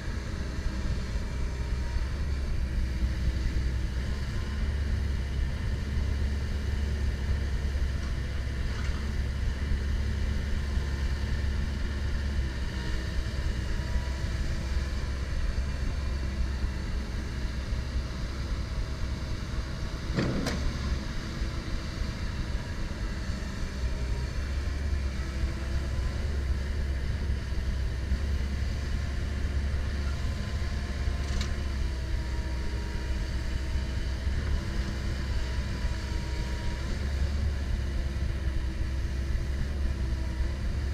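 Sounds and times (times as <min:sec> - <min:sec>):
excavator diesel engine drone: 0:00.0 - 0:40.9.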